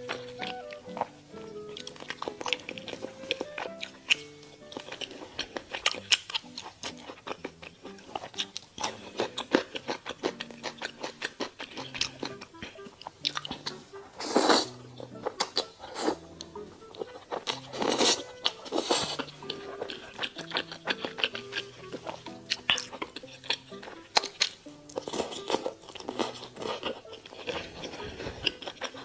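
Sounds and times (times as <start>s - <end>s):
chewing crispy steak: 0.0s - 29.0s
noisy mouth sounds: 0.0s - 29.0s
soft background music: 0.0s - 29.0s.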